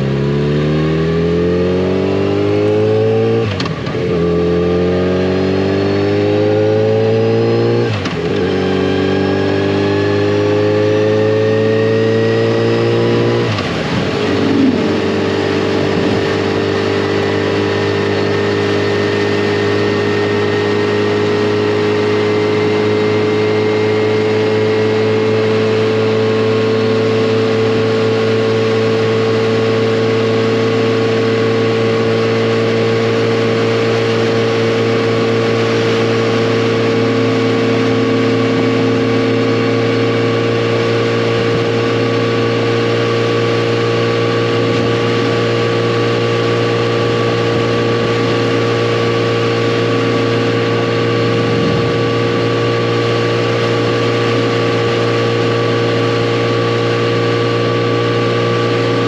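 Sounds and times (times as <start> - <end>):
motorcycle engine cruising: 0.0 - 59.0
road and wind noise: 0.0 - 59.0.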